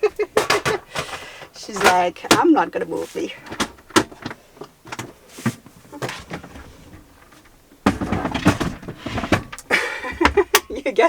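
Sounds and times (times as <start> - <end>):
clattering and rustling: 0.0 - 10.8.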